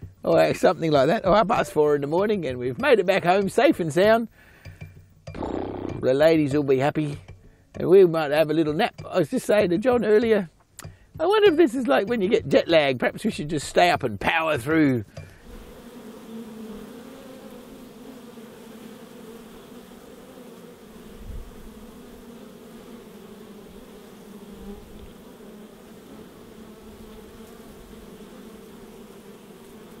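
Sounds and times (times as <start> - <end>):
bees buzzing: 0.0 - 7.2, 7.8 - 30.0.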